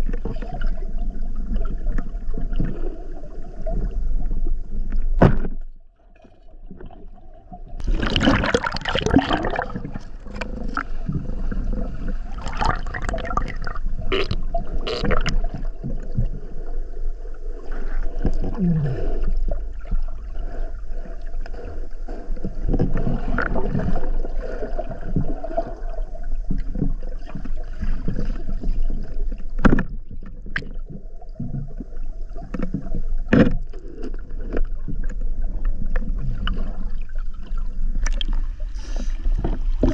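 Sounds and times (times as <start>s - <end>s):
muffled underwater wash: 0.0s - 39.9s.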